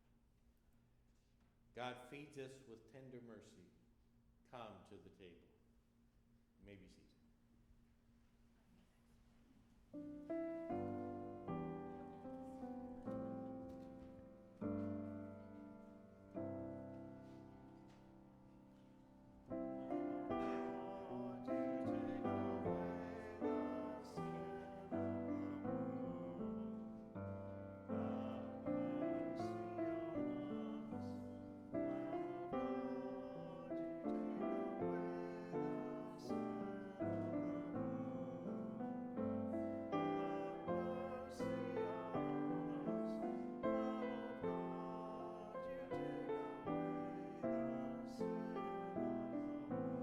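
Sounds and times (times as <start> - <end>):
slow hymn-like piano chords: 9.9 - 50.0.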